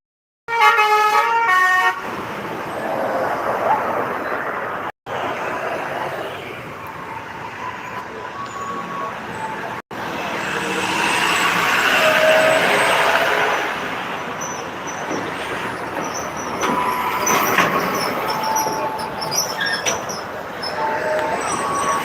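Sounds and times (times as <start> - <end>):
road traffic din: 0.5 - 22.0.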